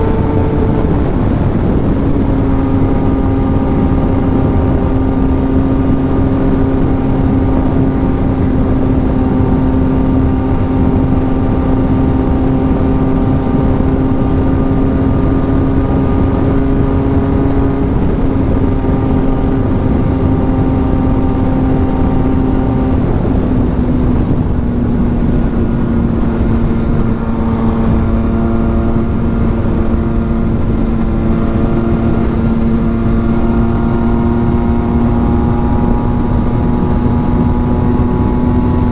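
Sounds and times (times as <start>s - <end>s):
motorcycle engine at high revs: 0.0s - 38.9s
wind rush: 0.0s - 38.9s.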